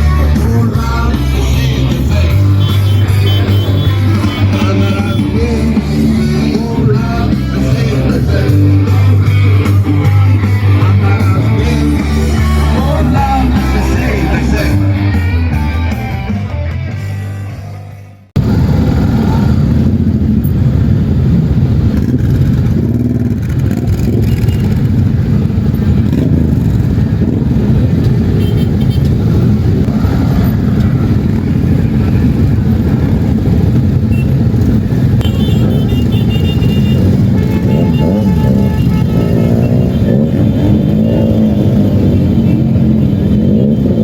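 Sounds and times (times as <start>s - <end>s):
motorcycle engine running: 0.0s - 16.1s, 18.4s - 44.0s.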